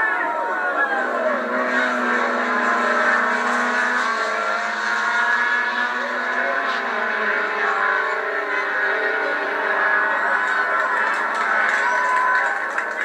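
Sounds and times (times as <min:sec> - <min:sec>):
race car engines through small speaker: 0:00.0 - 0:13.0.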